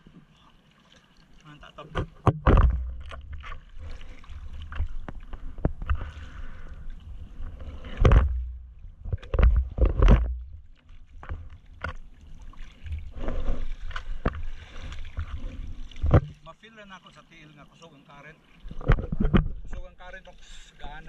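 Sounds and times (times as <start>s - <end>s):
water splashing against surfboard: 0.0s - 21.0s.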